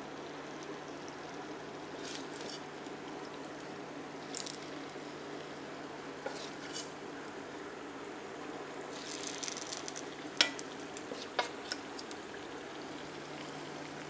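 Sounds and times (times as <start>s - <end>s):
batter sizzling in hot oil: 0.0s - 14.0s.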